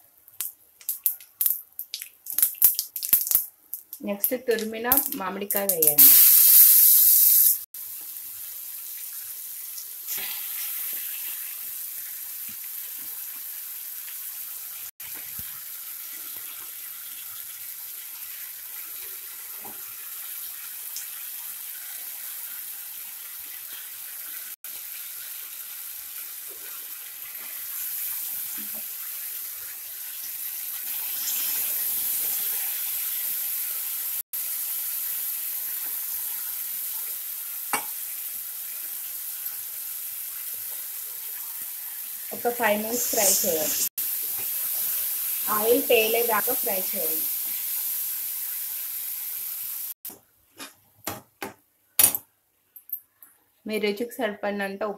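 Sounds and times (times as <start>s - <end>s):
hot oil sizzling: 0.0s - 50.0s.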